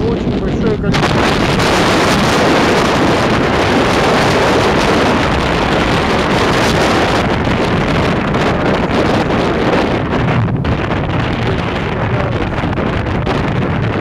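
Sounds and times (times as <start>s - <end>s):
water washing along hull: 0.0s - 14.0s
wind blasting microphone: 0.0s - 14.0s.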